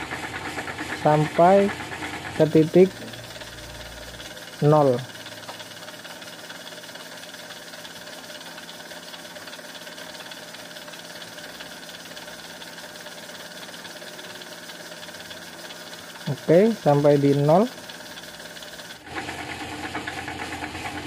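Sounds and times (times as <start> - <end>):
milling machine humming: 0.0 - 21.0.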